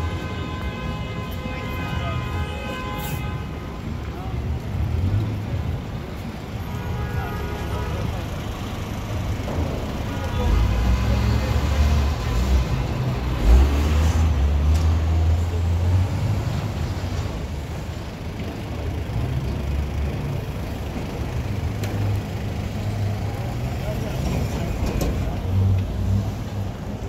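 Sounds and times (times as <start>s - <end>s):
car traffic: 0.0s - 27.0s.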